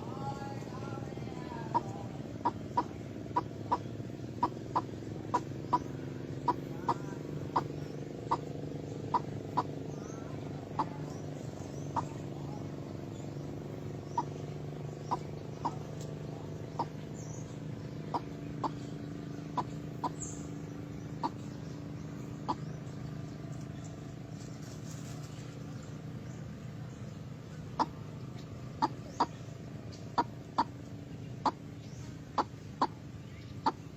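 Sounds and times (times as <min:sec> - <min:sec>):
bird call notes: 0:00.0 - 0:33.9
steady low hum: 0:00.0 - 0:33.9.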